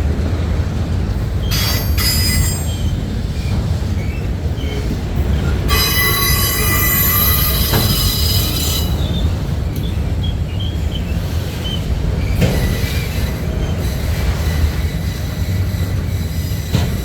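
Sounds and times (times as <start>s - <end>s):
freight train rumbling: 0.0s - 17.0s
train wheels squealing: 1.4s - 17.0s.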